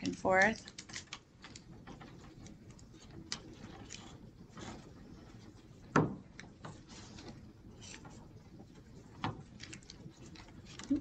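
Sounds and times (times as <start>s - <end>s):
handling craft pieces on table: 0.0s - 11.0s.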